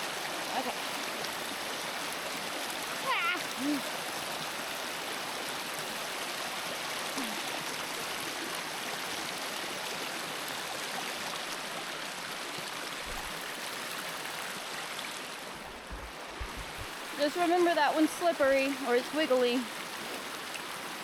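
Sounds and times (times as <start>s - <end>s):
creek rushing over rocks: 0.0s - 21.0s.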